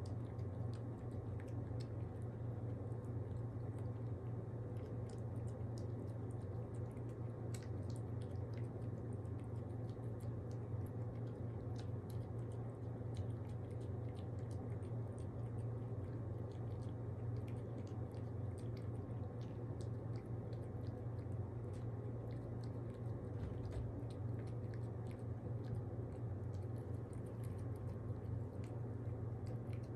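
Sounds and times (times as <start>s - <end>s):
low hum: 0.0s - 29.9s
pet chewing and licking food: 0.0s - 29.9s.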